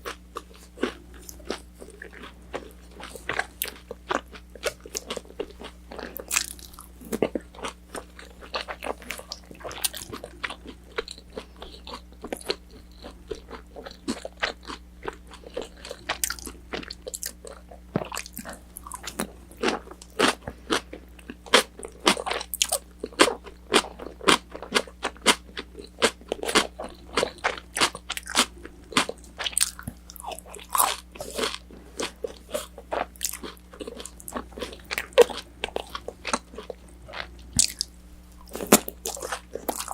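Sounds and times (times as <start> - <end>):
chewing crunchy food: 0.0 - 39.9
faint steady hum: 0.0 - 39.9.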